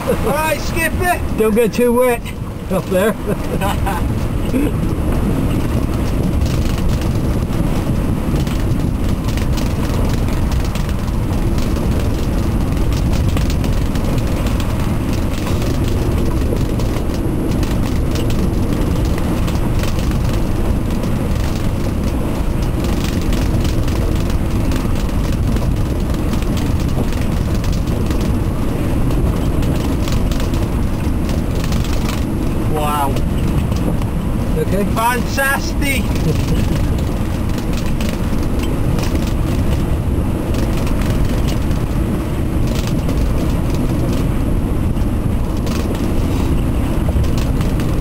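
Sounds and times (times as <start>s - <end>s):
rush of the sea: 0.0s - 48.0s
strong wind rumbling on microphone: 0.0s - 48.0s.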